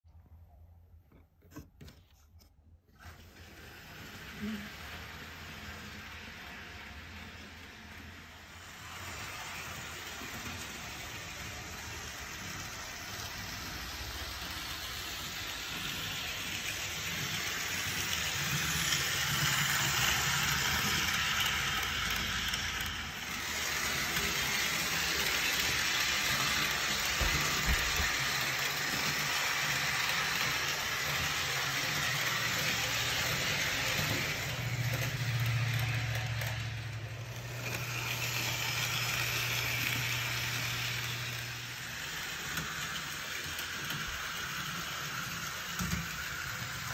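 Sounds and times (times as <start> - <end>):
model train rushing hiss: 3.1 - 36.6, 37.4 - 46.9.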